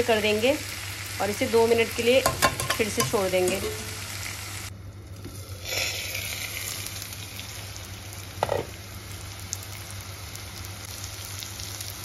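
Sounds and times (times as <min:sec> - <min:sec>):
potatoes sizzling in a pan: 0:00.0 - 0:04.7, 0:05.3 - 0:12.0.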